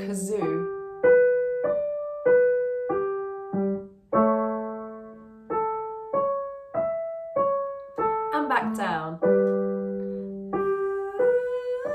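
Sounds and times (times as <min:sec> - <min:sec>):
piano arpeggio: 0:00.0 - 0:11.9.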